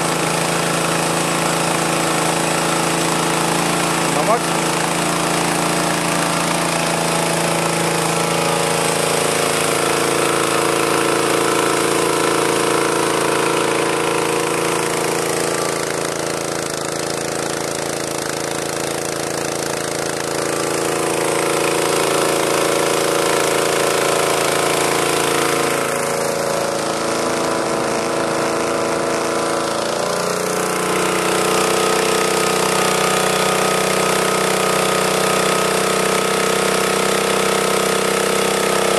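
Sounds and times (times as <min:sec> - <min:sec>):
small petrol engine droning: 0:00.0 - 0:38.9.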